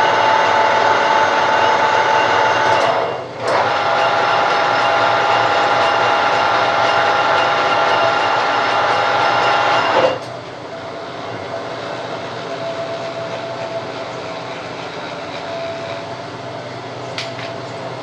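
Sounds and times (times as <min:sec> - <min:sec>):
lathe cutting plastic: 0:00.0 - 0:16.2
lathe running: 0:00.0 - 0:17.0.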